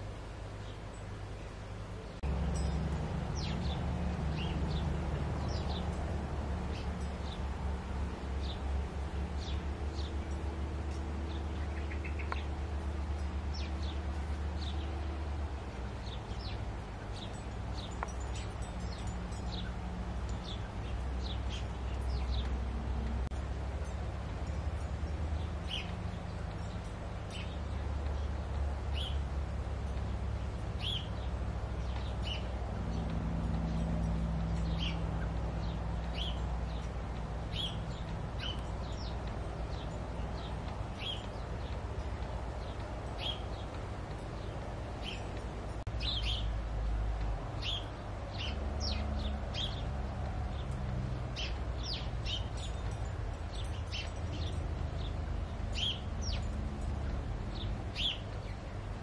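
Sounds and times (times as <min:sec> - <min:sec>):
bird chirping: 0:00.6 - 0:46.6, 0:47.6 - 0:59.0.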